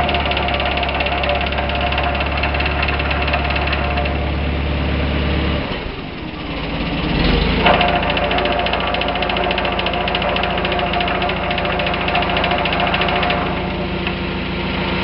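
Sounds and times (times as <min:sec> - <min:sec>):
fast rattle: 0:00.0 - 0:15.0
tractor engine running: 0:00.0 - 0:15.0.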